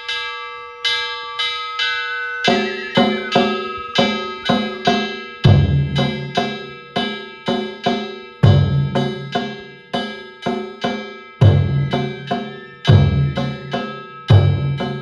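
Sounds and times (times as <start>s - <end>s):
hand gongs struck and ringing: 0.0s - 15.0s.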